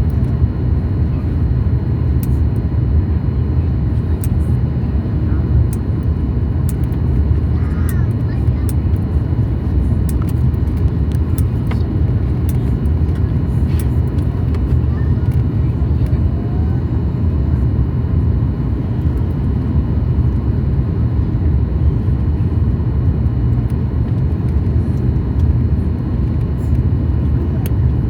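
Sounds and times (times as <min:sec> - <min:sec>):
jet engine cabin drone: 0:00.0 - 0:28.0.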